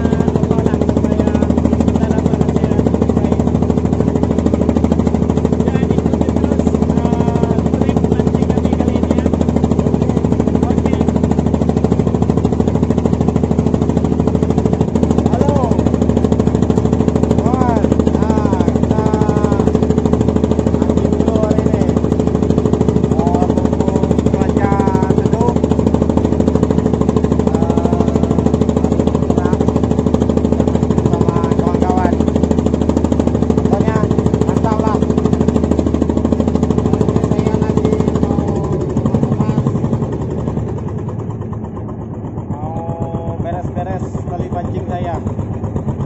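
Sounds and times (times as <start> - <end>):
boat engine thumping: 0.0 - 46.0.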